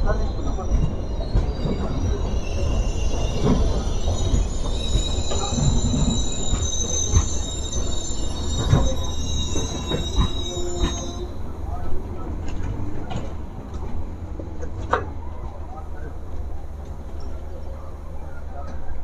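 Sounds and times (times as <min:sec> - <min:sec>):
train low rumble: 0:00.0 - 0:19.0
steel wheel squeal: 0:00.1 - 0:14.2, 0:15.8 - 0:18.5.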